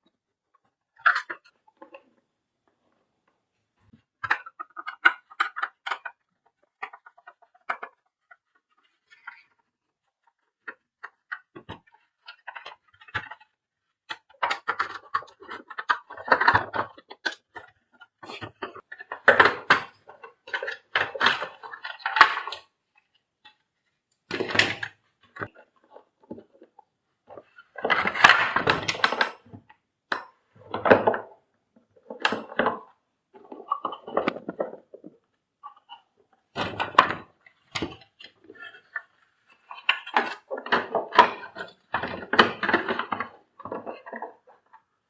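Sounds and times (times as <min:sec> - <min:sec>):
plastic parts clattering and clicking: 0:04.2 - 0:23.6, 0:24.3 - 0:31.4, 0:32.0 - 0:44.8.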